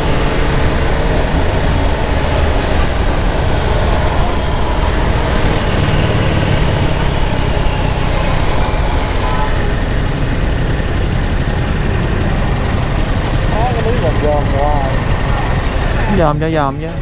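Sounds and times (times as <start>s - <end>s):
motorcycle engine: 0.0s - 17.0s.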